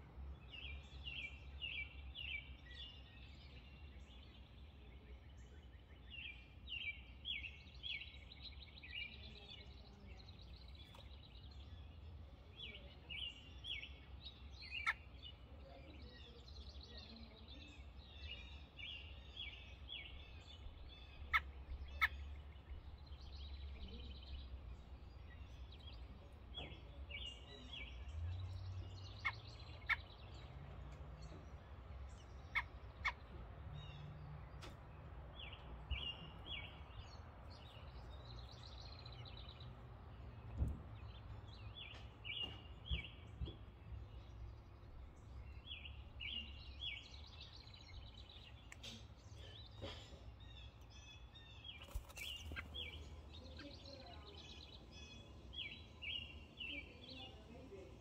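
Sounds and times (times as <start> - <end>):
robins chirping: 0.2 - 58.0.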